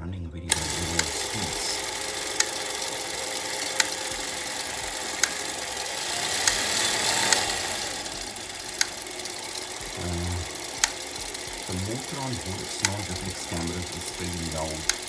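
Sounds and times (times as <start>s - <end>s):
clockwork camera motor whirring: 0.5s - 15.0s
sharp clicks: 0.5s - 15.0s.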